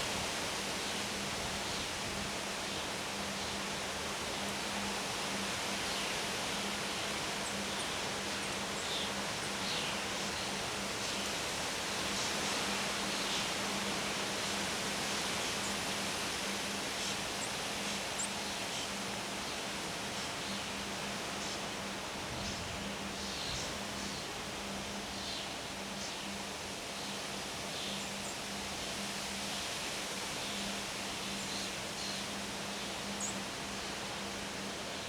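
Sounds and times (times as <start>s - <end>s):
wind rushing through trees: 0.0s - 35.0s.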